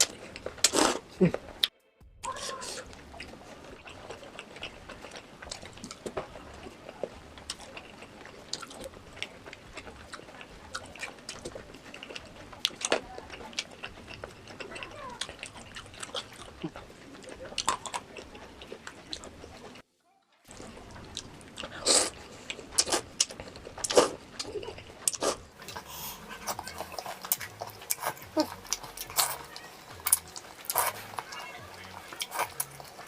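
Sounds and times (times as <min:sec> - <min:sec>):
chewing with wet mouth clicks: 0:02.9 - 0:19.8, 0:20.5 - 0:33.0.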